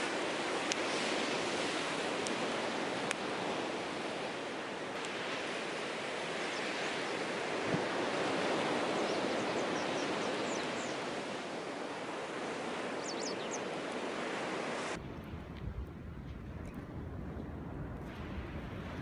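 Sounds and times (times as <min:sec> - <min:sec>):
surf washing on shore: 0:00.0 - 0:15.4, 0:18.0 - 0:19.0
wind rumbling on microphone: 0:00.0 - 0:19.0.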